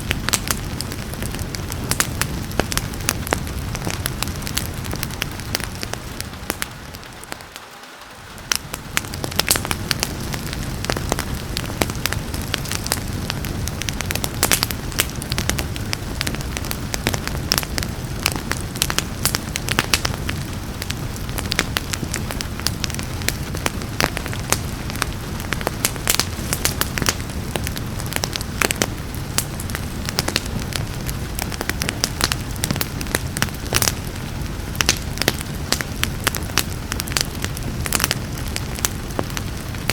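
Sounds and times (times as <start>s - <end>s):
rain: 0.0s - 39.9s
wood fire crackling and popping: 0.0s - 39.9s.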